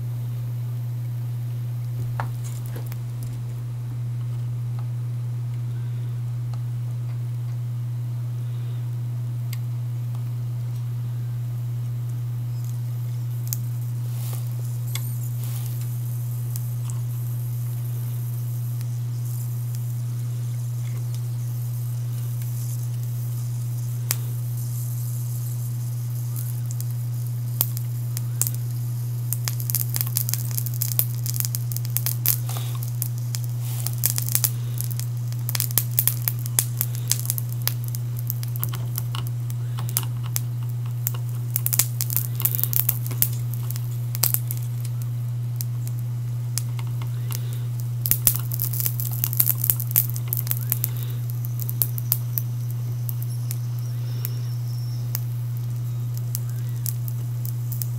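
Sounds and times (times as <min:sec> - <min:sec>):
low electrical hum: 0:00.0 - 0:57.9
solder crackling and sizzling: 0:00.0 - 0:57.9.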